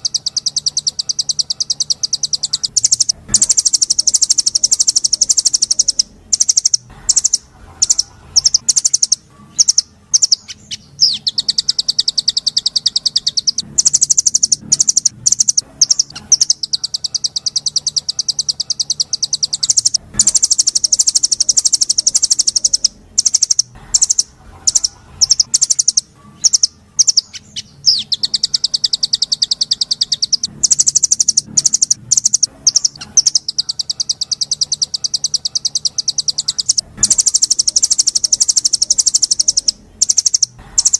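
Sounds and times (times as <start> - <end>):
songbird singing buzzy trills: 0.0 - 40.9.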